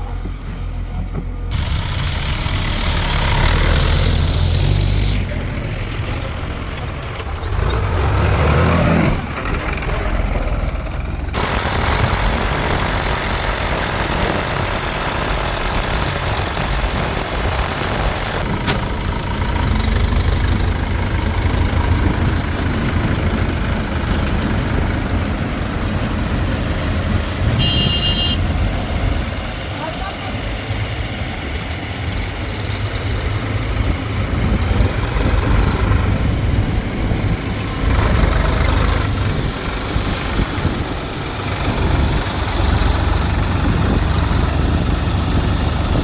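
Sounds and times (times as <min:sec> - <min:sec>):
heavy diesel engines running: 0:00.0 - 0:46.0.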